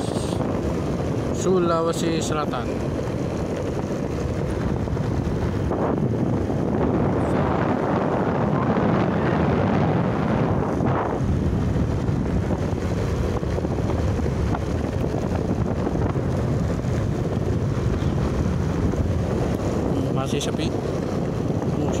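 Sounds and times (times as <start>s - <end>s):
road noise rumble: 0.0s - 22.0s
wind rushing over microphone: 0.0s - 22.0s.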